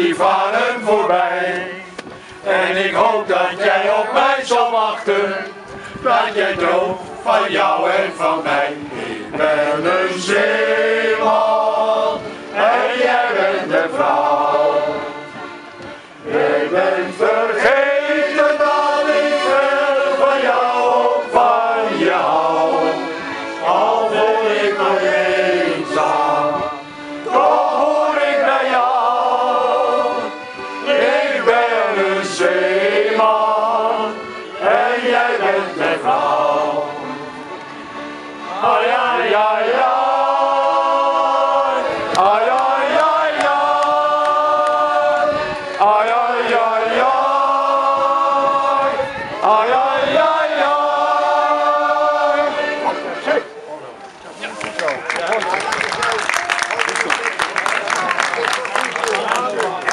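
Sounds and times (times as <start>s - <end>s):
men's choir singing: 0.0s - 53.4s.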